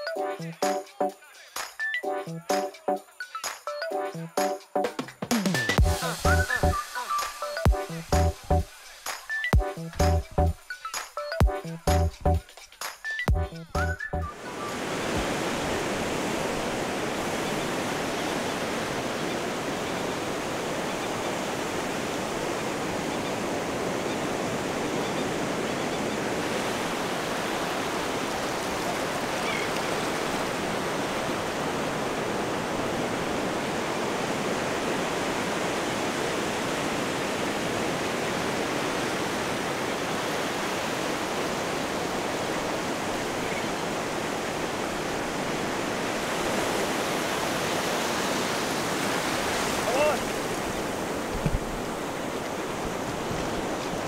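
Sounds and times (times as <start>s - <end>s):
surf waves washing on beach: 5.6s - 9.5s, 14.3s - 54.0s.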